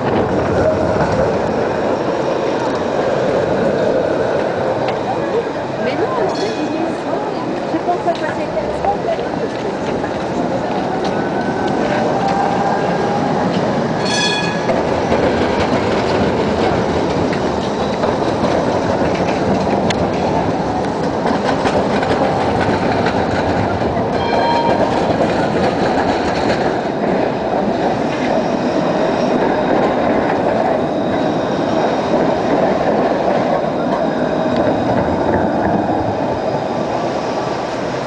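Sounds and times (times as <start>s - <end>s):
tram wheels rumbling on rails: 0.0s - 38.0s.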